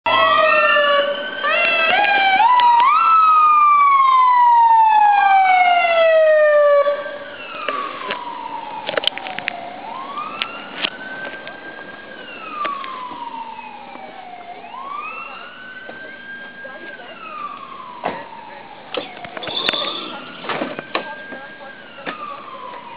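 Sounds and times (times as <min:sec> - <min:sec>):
ambulance siren wailing: 0:00.1 - 0:22.9.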